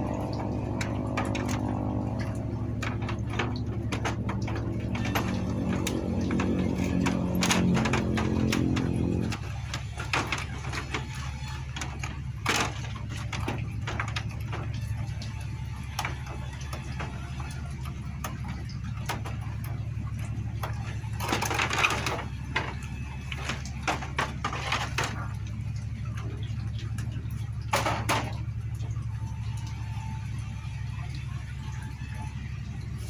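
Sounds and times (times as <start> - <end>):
metal scraping clatters: 0.0 - 28.8
tools and metal parts clattering: 0.0 - 28.9
low steady hum: 0.0 - 33.0.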